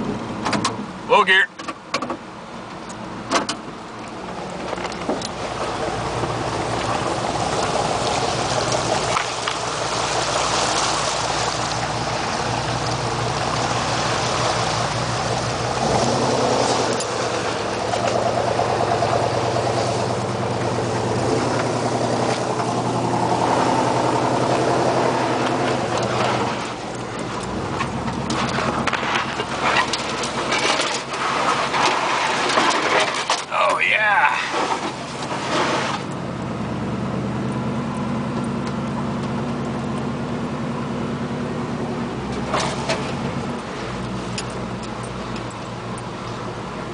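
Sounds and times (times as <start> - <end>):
truck engine running: 0.0 - 46.9
tyres on gravel road: 0.0 - 46.9.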